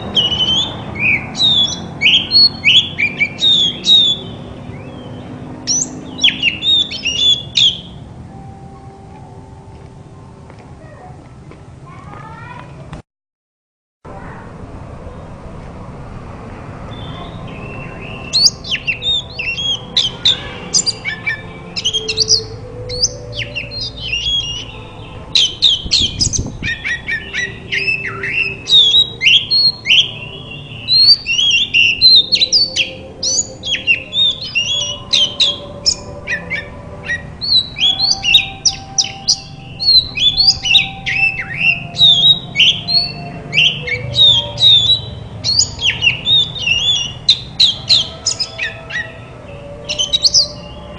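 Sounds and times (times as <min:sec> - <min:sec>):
bird singing varied song: 0:00.0 - 0:09.4, 0:16.8 - 0:50.9.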